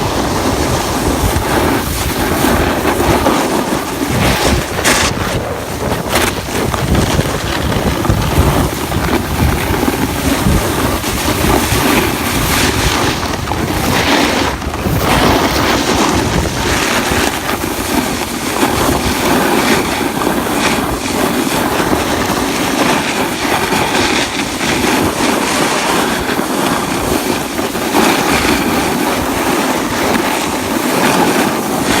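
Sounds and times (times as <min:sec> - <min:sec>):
snowboard carving on snow: 0:00.0 - 0:32.0
wind rushing over microphone: 0:00.0 - 0:32.0.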